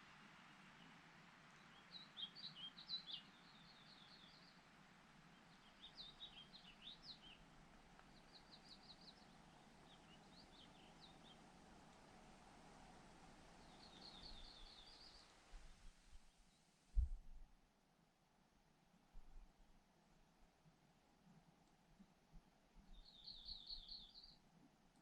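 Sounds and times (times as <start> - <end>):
songbird chirping: 0.0 - 17.4, 21.2 - 25.0
faint outdoor hiss: 0.0 - 25.0.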